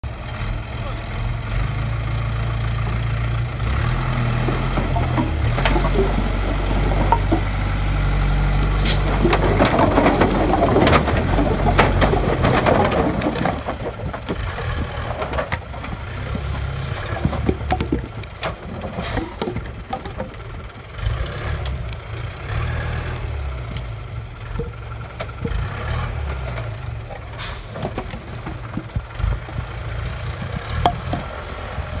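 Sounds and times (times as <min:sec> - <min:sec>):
truck diesel engine running: 0:00.0 - 0:32.0
logs clattering off truck bed: 0:03.9 - 0:32.0.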